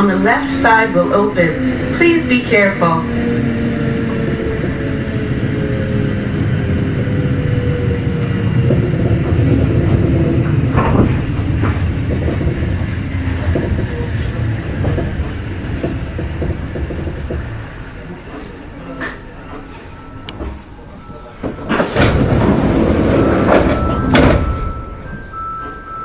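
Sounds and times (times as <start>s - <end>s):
train running rumble: 0.0s - 26.0s
train motor tone falling: 0.2s - 25.8s.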